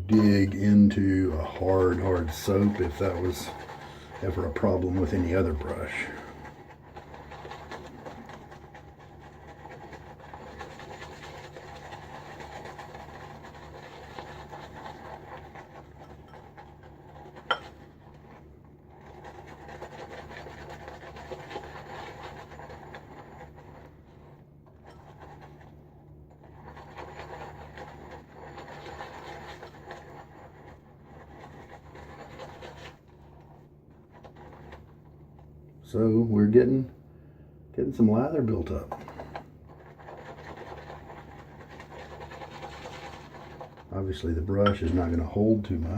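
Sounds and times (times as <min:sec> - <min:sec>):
shaving brush rubbing soap lather: 0:00.2 - 0:36.8, 0:38.0 - 0:45.9.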